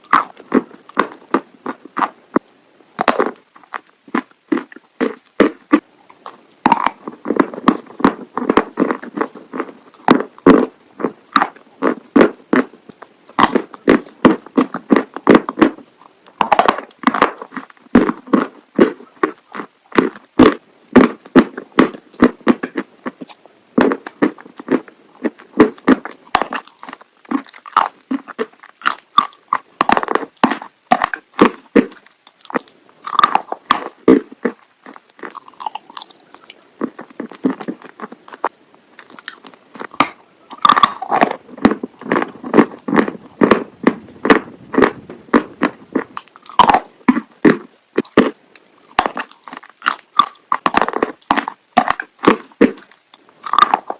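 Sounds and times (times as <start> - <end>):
chewing chalk crunches: 0.0 - 53.9.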